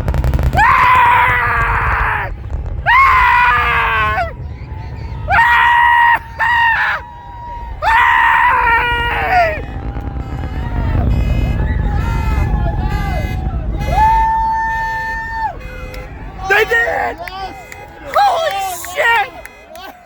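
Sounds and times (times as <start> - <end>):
low rumble: 0.0 - 18.2.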